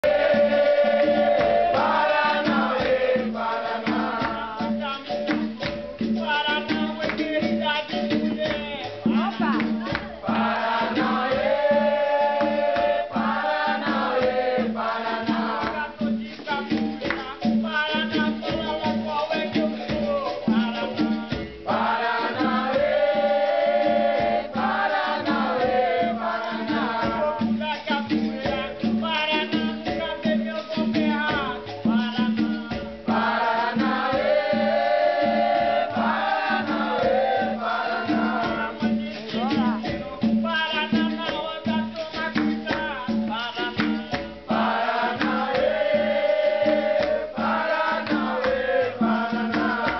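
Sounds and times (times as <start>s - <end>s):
group singing: 0.0s - 49.9s
hand drum: 0.0s - 49.9s.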